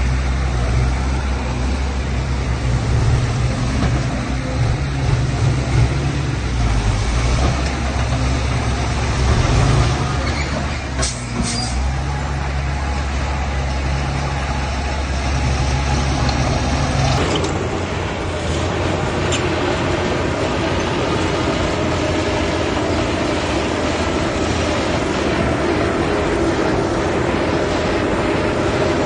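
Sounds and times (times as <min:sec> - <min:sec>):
heavy diesel machinery engine: 0:00.0 - 0:29.0.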